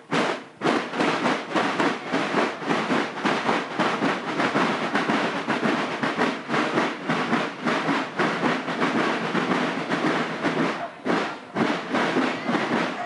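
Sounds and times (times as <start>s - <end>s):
marching drums beating: 0.0s - 13.0s.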